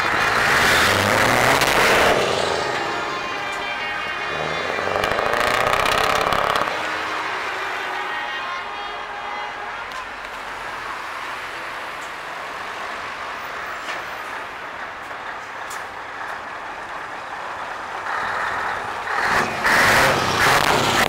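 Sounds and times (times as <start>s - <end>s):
truck engine passing close: 0.0s - 8.0s, 10.1s - 21.0s
traffic noise: 0.0s - 21.0s.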